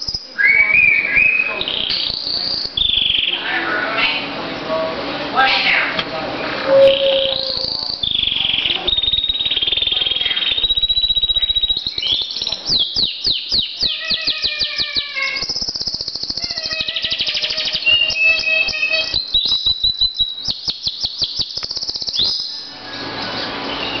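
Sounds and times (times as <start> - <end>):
canary singing: 0.0 - 4.4, 5.4 - 24.0.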